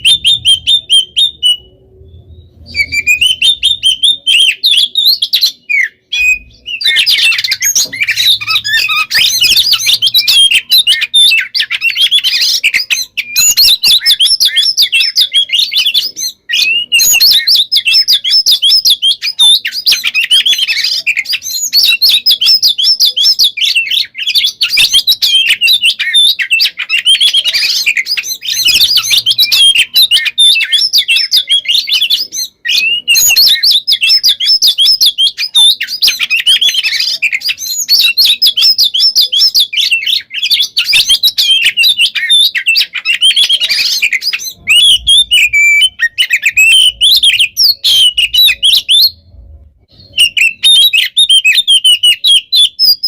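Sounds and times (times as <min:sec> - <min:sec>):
songbird singing whistled notes: 0:00.0 - 0:53.0.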